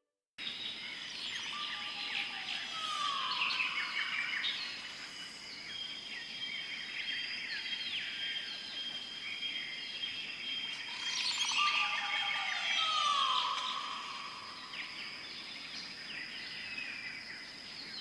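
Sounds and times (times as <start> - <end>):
birds chirping and calling: 0.9 - 17.3.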